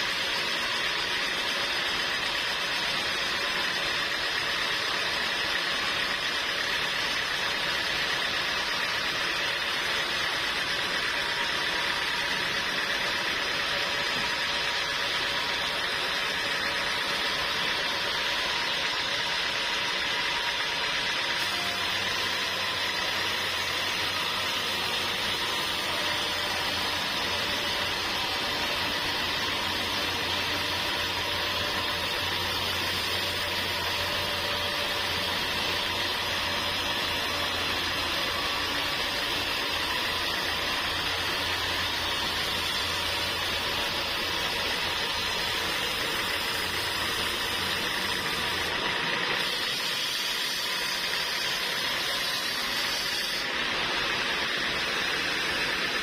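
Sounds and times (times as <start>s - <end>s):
sawmill machinery whirring: 0.0s - 56.0s.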